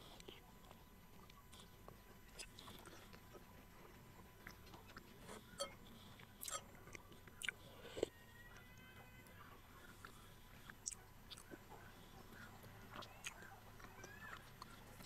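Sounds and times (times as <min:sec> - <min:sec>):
close-up chewing: 0:00.0 - 0:15.0.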